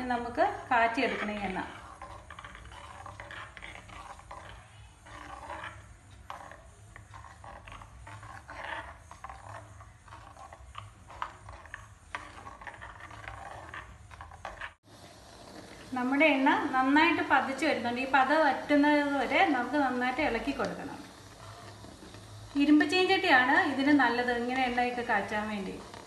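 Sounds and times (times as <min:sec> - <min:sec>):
spoon stirring and scraping metal pan: 0:00.0 - 0:26.0.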